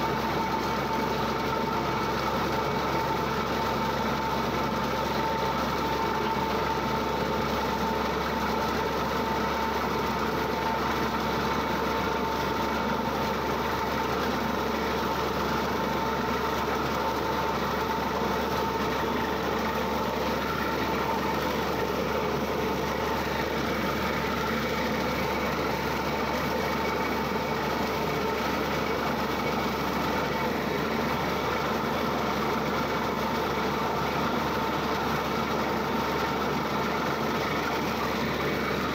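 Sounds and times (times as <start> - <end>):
drilling rig engine drone: 0.0 - 38.9.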